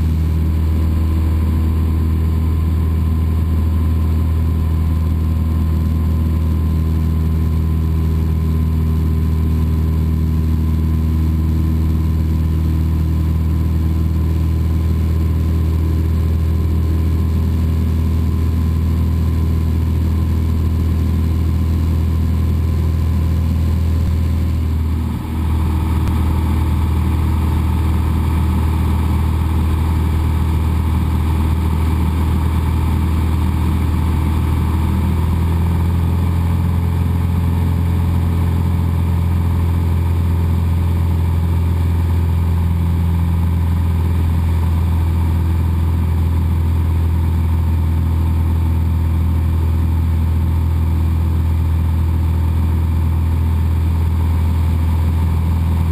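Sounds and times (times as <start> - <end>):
airplane engine droning in cabin: 0.0 - 55.9.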